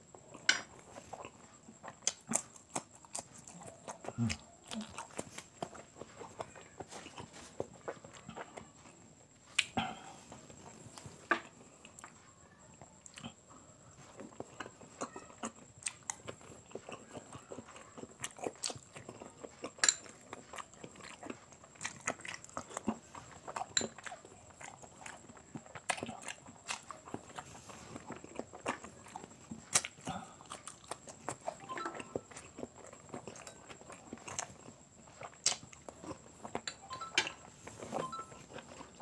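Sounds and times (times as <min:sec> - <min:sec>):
wet chewing with smacks: 0:00.0 - 0:12.3, 0:13.0 - 0:36.8.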